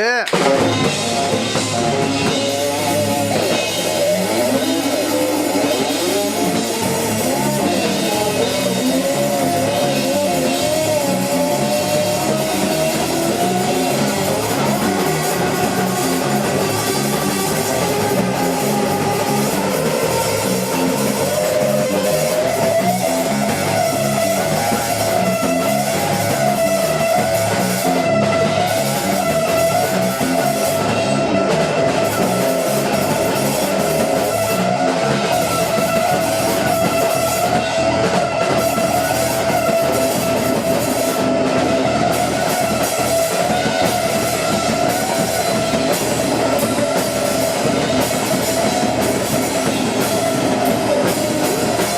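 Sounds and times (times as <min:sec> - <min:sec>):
live rock band: 0:00.0 - 0:51.9.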